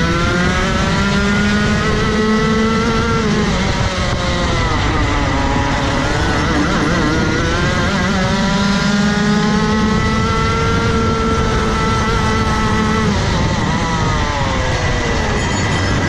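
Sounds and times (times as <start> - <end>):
kart engine at full throttle: 0.0 - 16.0.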